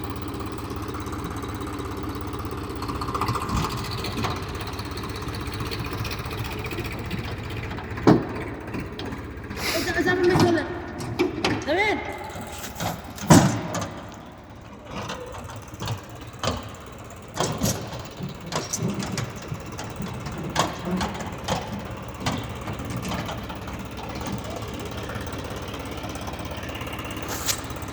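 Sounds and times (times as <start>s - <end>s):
tractor engine running: 0.0s - 27.9s
knocks and clanks: 3.2s - 27.9s.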